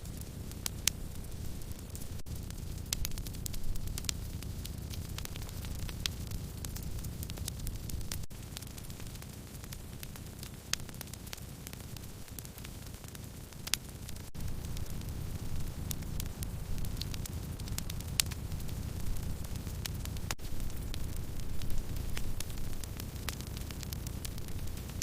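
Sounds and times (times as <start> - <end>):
low rumble of burning firewood: 0.0 - 25.0
wood fire crackling: 0.0 - 25.0.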